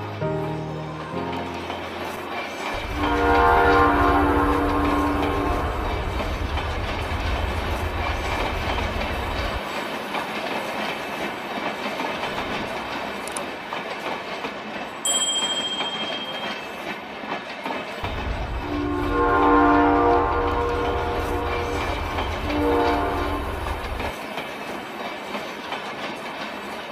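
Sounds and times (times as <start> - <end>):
train rumbling on rails: 0.0 - 26.9.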